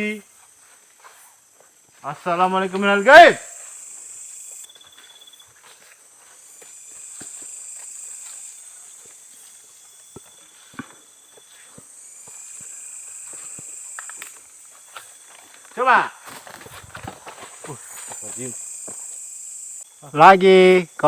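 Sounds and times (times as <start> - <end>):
insects shrilling: 0.0 - 21.0.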